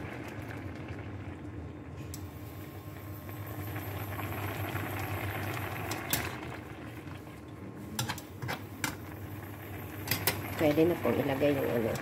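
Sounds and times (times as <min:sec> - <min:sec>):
liquid simmering in a pan: 0:00.0 - 0:12.0.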